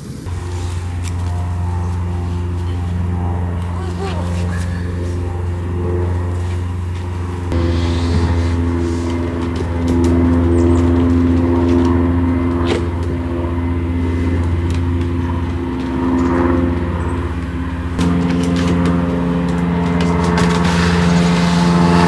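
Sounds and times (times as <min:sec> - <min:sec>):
car engine running while driving: 0:00.2 - 0:22.0.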